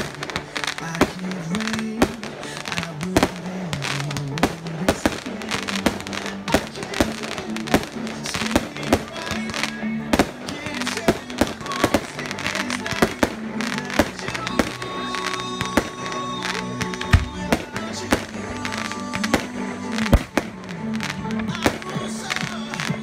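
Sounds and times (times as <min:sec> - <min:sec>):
fireworks bangs and pops: 0:00.0 - 0:23.0
music playing: 0:00.0 - 0:23.0.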